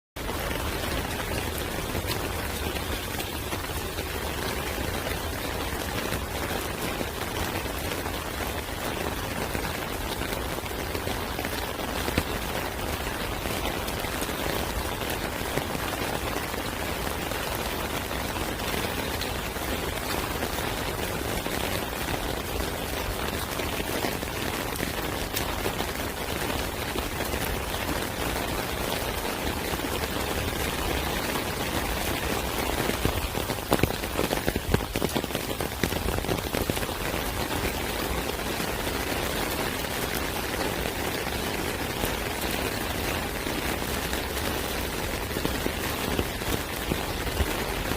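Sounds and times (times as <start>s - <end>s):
steady rain falling: 0.2s - 47.9s.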